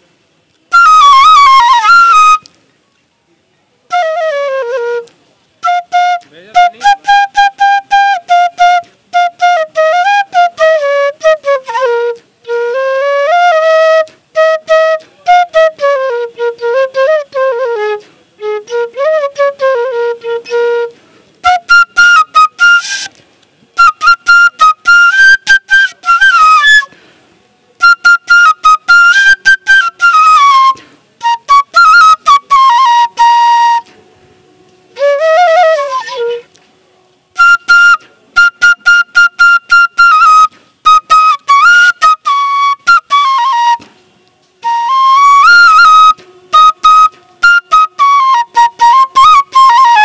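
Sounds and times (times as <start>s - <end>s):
bamboo flute melody: 0.0s - 2.8s, 3.7s - 50.0s.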